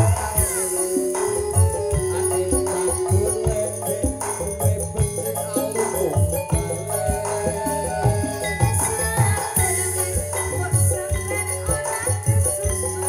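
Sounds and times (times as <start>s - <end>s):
gamelan ensemble playing: 0.0s - 13.0s
hand-drum strokes: 0.0s - 13.0s.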